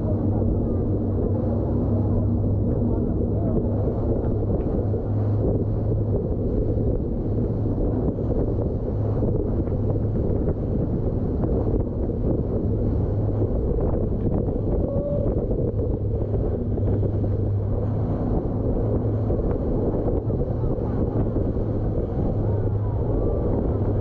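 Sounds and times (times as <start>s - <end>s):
boat engine running: 0.0s - 24.0s
wind buffeting microphone: 0.0s - 24.0s.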